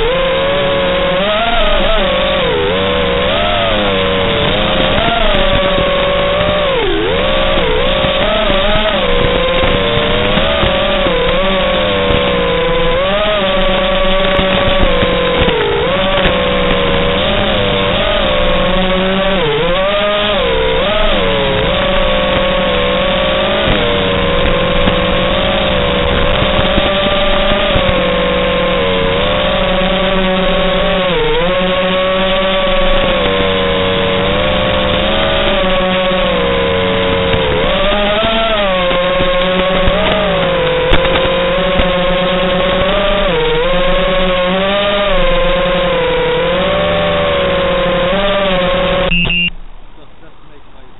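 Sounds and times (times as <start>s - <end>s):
drone motors whining: 0.0s - 50.9s
low hum: 0.0s - 50.9s.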